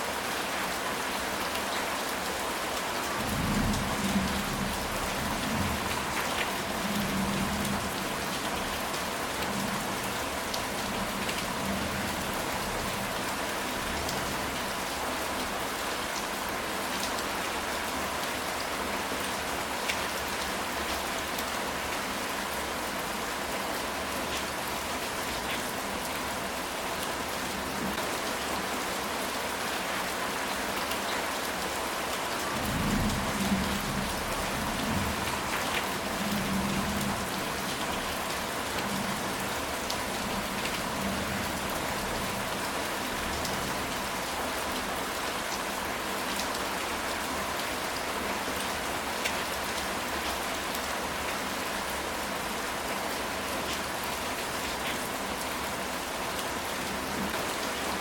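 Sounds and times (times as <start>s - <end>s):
rain on a tile roof: 0.0s - 58.0s.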